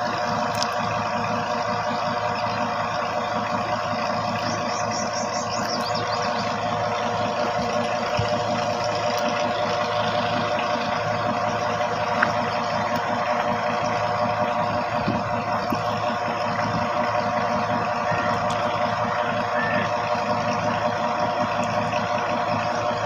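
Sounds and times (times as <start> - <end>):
engine droning: 0.0 - 23.0.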